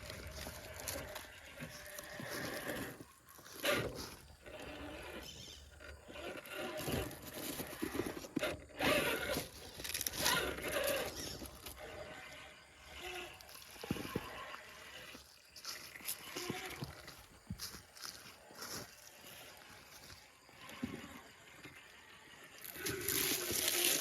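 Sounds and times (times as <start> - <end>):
tyres crunching over rock: 0.0 - 21.2, 22.6 - 24.0
electric motor whine: 0.0 - 24.0.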